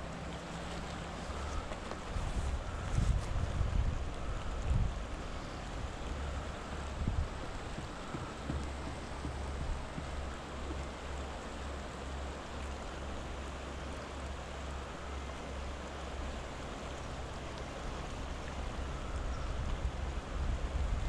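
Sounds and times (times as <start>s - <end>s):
wind rumble on microphone: 0.0s - 12.4s, 16.2s - 21.0s
river rushing over stones: 0.0s - 21.0s.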